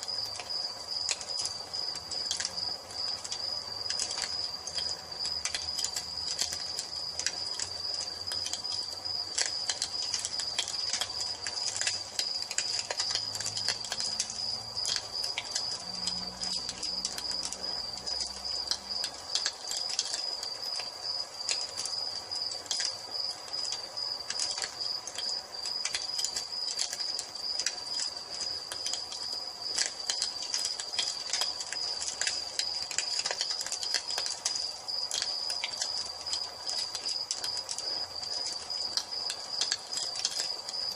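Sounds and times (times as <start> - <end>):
crickets chirping: 0.0 - 40.9
wood fire crackling and popping: 0.0 - 40.9.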